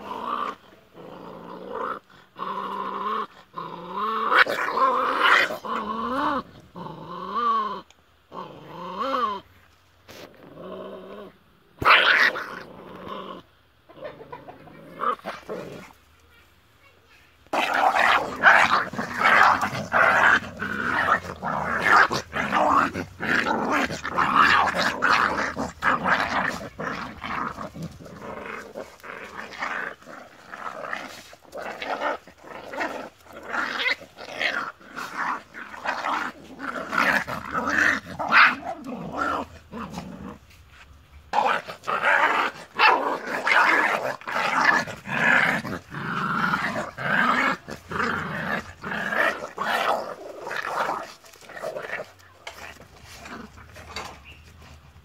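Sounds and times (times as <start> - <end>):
puppies growling: 0.0 - 9.6, 10.2 - 16.0, 17.5 - 40.6, 41.3 - 55.0.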